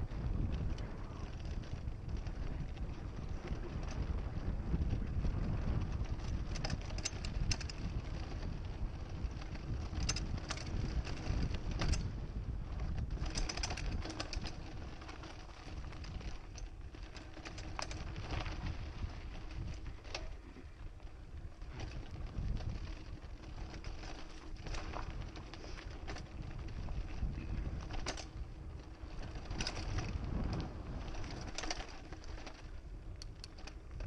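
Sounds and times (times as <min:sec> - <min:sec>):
bike clicks and rattles: 0:00.0 - 0:34.0
bike tyres rumbling on dirt: 0:00.0 - 0:34.0
wind: 0:00.0 - 0:34.0.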